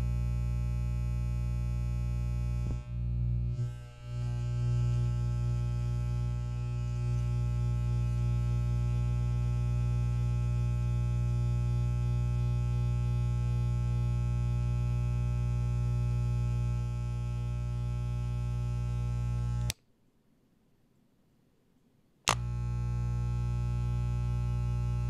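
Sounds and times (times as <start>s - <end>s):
electric hair clipper buzzing: 0.0s - 19.8s, 22.3s - 25.0s.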